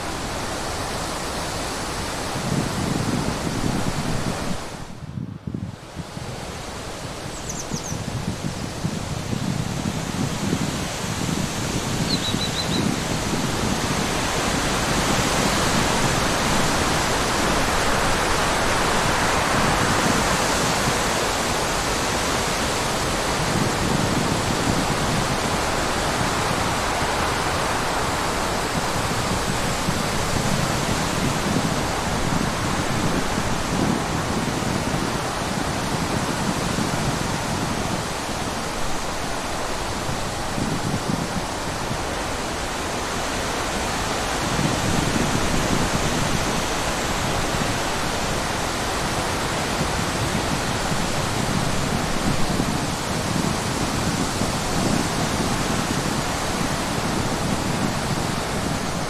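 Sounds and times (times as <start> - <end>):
flowing water rushing: 0.0 - 5.0, 5.9 - 59.0.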